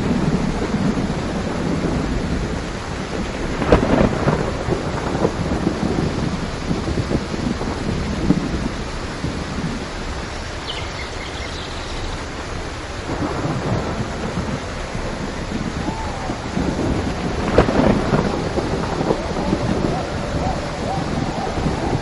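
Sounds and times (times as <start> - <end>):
thunder crack: 0.0 - 9.8, 13.0 - 22.0
rolling thunder: 0.0 - 22.0
steady rain: 0.0 - 22.0.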